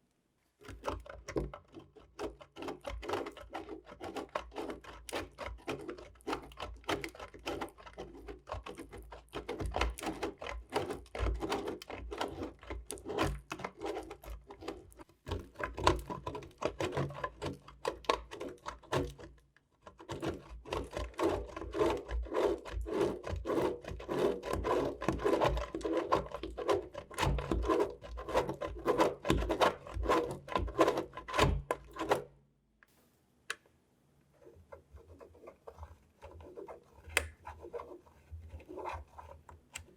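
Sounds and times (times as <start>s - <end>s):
blade cutting through soap: 0.6s - 32.4s, 34.3s - 39.9s.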